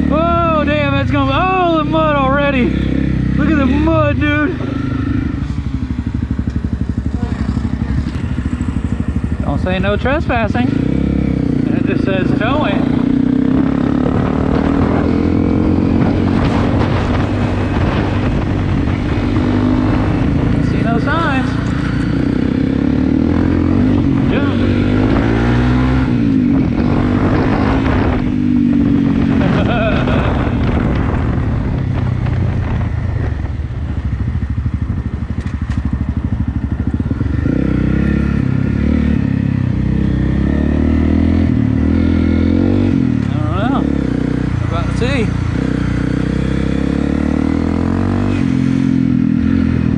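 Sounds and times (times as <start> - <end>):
motorcycle engine running: 0.0 - 49.9
wind buffeting microphone: 0.2 - 49.9.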